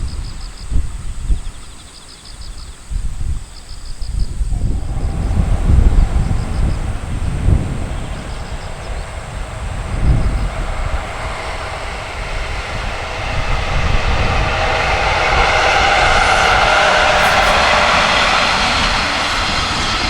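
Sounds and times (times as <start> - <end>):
wind gusts on microphone: 0.0 - 20.0
freight train running noise: 3.0 - 20.0.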